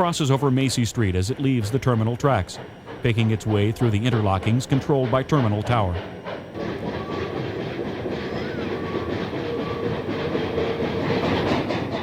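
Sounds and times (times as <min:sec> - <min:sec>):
steam train clattering on rails: 0:00.0 - 0:12.0.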